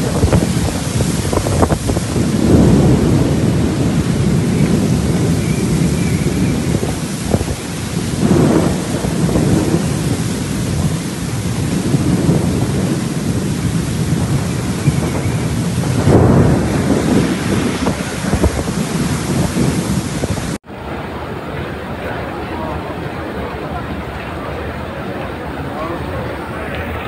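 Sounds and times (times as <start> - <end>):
heavy rain: 0.0 - 27.0
strong wind: 0.0 - 27.0.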